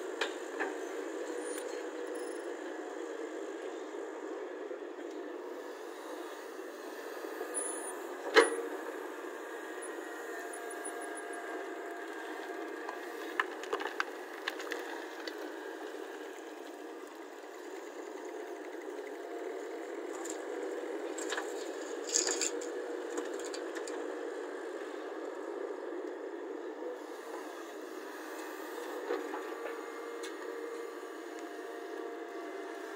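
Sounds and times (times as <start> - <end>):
excavator running: 0.0 - 32.9.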